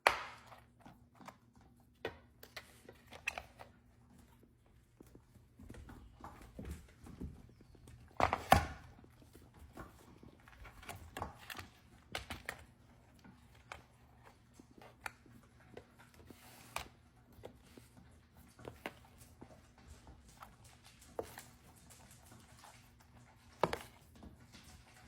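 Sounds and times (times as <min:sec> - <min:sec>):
dogs eating from bowls: 0:00.6 - 0:25.0.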